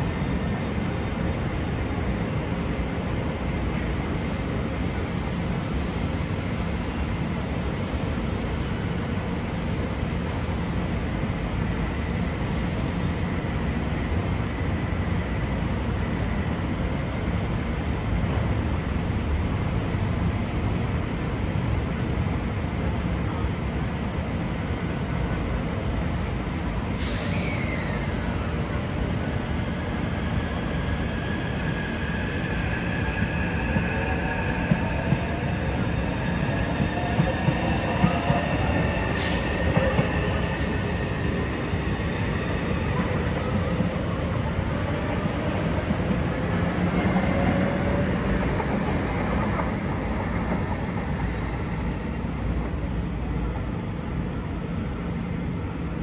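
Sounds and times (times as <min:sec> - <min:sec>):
low rumble of train equipment: 0:00.0 - 0:56.0.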